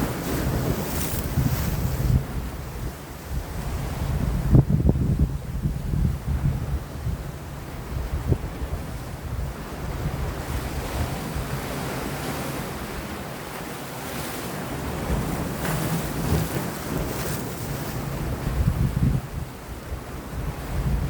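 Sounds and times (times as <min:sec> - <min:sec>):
sea waves washing against rocks: 0:00.0 - 0:04.6, 0:07.2 - 0:21.0
wind gusting on microphone: 0:00.0 - 0:13.3, 0:14.8 - 0:21.0.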